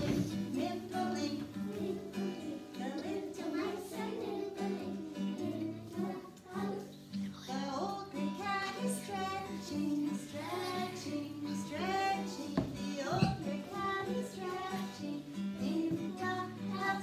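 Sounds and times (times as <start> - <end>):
children singing: 0.0 - 17.0.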